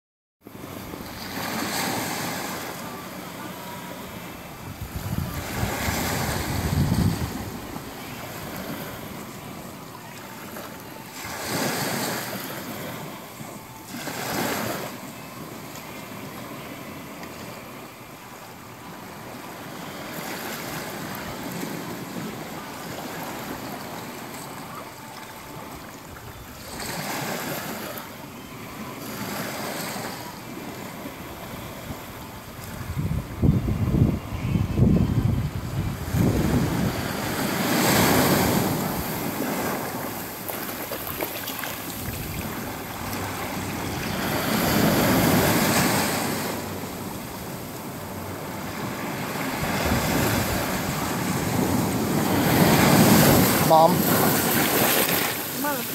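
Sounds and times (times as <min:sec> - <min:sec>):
waves washing onto beach: 0:00.5 - 0:55.9.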